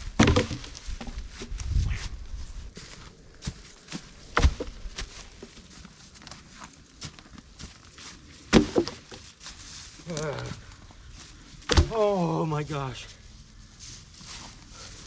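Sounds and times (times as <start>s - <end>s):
footsteps in snow: 0.7s - 8.5s, 9.2s - 11.6s, 12.8s - 15.0s.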